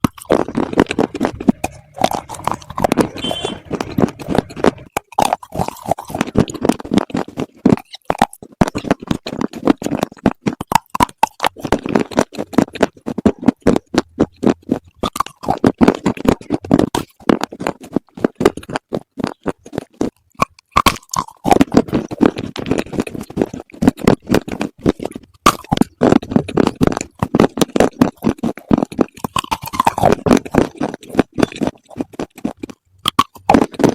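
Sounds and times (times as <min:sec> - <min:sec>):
chewing crunchy bars: 0:00.0 - 0:33.9.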